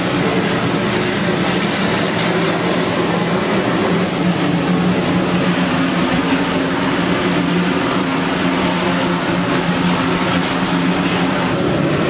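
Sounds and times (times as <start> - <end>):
steam locomotive working: 0.0 - 12.0.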